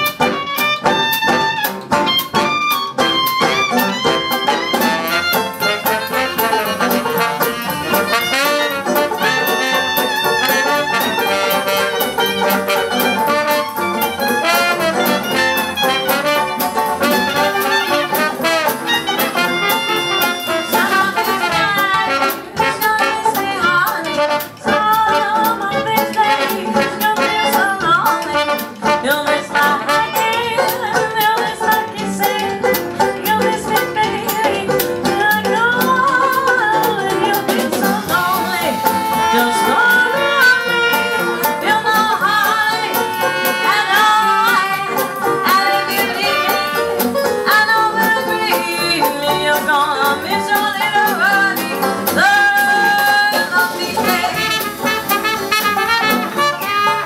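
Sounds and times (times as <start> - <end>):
swing jazz band playing: 0.0 - 57.0
woman singing: 4.8 - 57.0.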